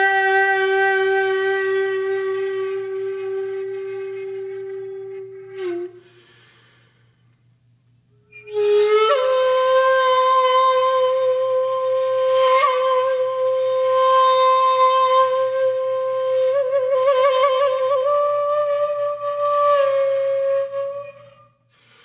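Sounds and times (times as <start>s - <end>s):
flute-like held notes: 0.0s - 6.8s, 8.1s - 21.7s.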